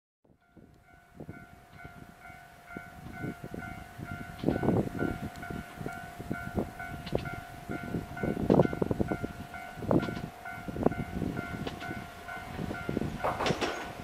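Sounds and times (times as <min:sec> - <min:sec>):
railroad crossing bell ringing: 0:00.3 - 0:14.0.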